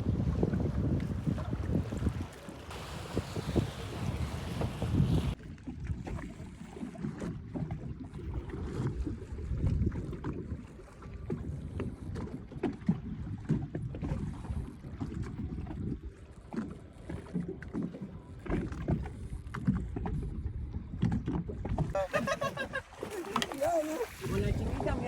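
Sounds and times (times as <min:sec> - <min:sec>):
water slapping boat hull: 0:00.0 - 0:25.0.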